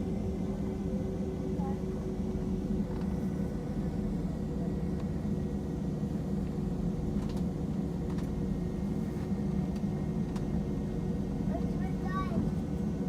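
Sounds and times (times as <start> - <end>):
airliner cabin engine hum: 0.0 - 13.0.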